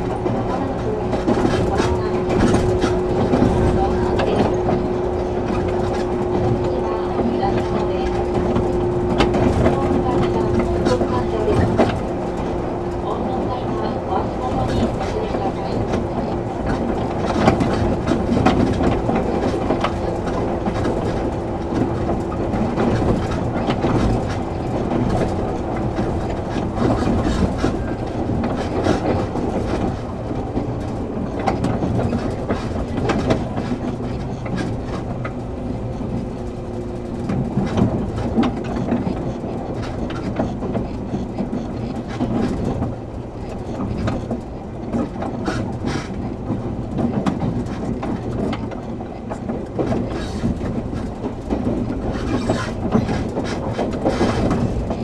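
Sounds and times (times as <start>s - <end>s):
rail-joint clicks: 0.0s - 55.0s
train motors and wheels rumbling: 0.0s - 55.0s.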